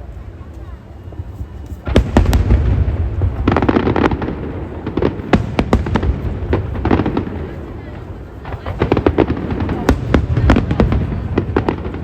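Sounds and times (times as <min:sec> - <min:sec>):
fireworks bursting and crackling: 0:01.7 - 0:12.0.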